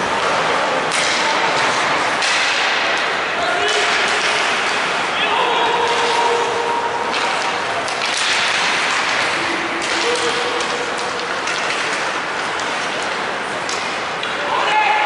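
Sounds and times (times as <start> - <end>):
arena crowd noise: 0.0 - 15.0
sticks and puck clacking: 0.0 - 15.0.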